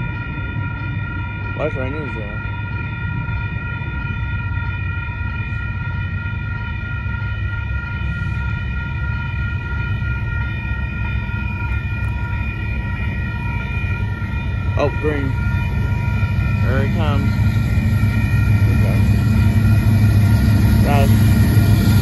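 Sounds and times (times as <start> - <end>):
low rumble: 0.0 - 22.0
railroad crossing bell ringing: 0.0 - 22.0.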